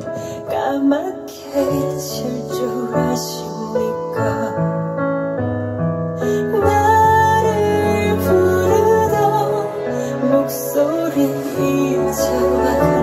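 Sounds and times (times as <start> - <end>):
woman singing: 0.0 - 5.0, 6.2 - 13.0
piano chords: 0.0 - 13.0.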